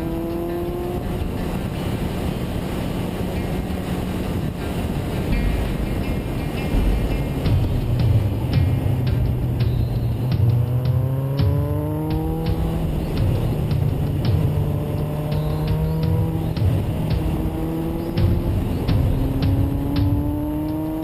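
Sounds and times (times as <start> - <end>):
motorcycle engine accelerating: 0.0 - 21.0
wind noise on microphone: 0.0 - 21.0.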